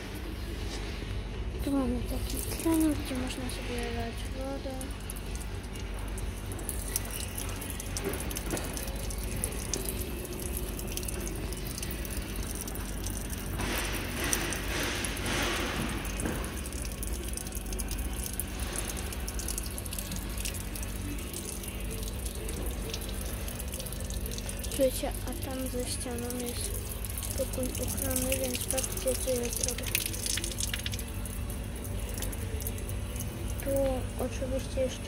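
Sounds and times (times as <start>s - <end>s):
water splashing on a metal grate: 1.7s - 34.8s.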